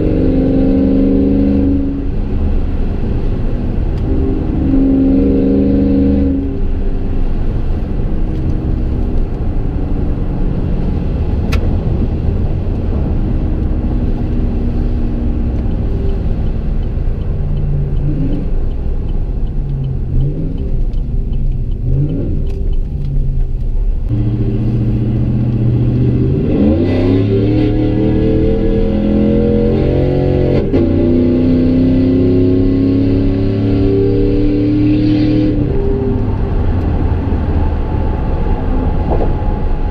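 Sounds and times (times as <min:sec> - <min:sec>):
car exhaust while driving: 0:00.0 - 0:39.9
engine revving under acceleration: 0:00.0 - 0:39.9.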